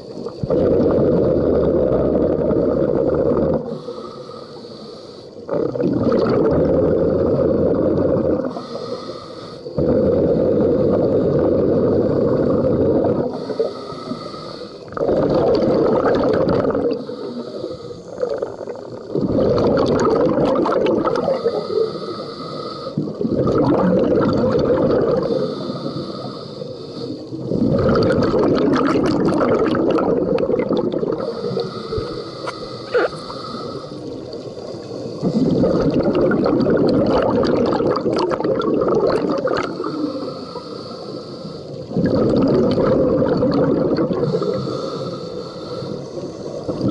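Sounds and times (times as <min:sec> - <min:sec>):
gurgling exhaled bubbles: 0:00.0 - 0:04.0, 0:05.4 - 0:08.7, 0:09.8 - 0:13.8, 0:14.8 - 0:22.2, 0:22.9 - 0:26.3, 0:27.3 - 0:40.6, 0:41.8 - 0:45.5, 0:46.2 - 0:46.9
inhaling through regulator: 0:00.3 - 0:46.9.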